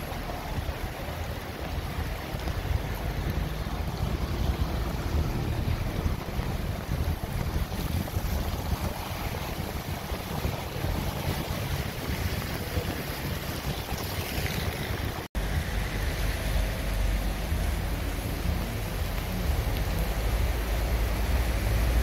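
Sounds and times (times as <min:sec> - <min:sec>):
heavy rain falling: 0:00.0 - 0:22.0
water pouring off roofs: 0:00.0 - 0:22.0
wind buffeting microphone: 0:00.0 - 0:22.0.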